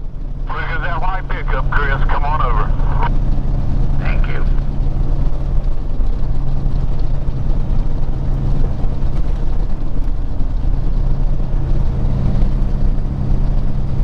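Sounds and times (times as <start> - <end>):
road rumble: 0.0 - 14.0
truck diesel engine drone: 0.0 - 14.0.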